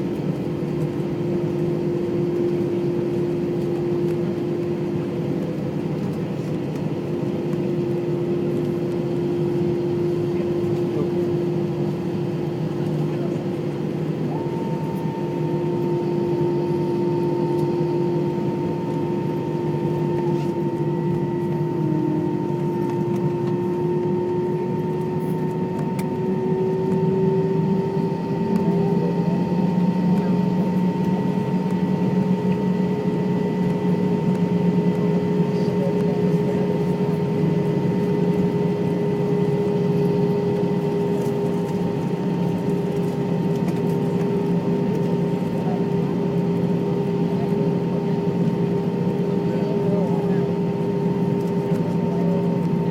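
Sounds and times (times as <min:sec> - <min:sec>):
jet engines idling: 0:00.0 - 0:52.9.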